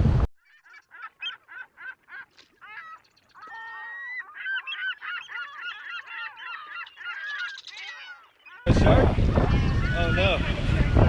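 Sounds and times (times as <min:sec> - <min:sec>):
flock of birds calling: 0:00.4 - 0:11.0.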